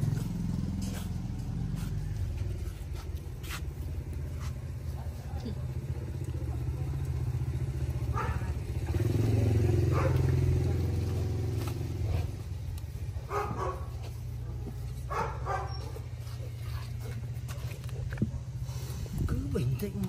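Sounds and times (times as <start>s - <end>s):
motor engine running: 0.0s - 20.0s
voices: 0.0s - 20.0s.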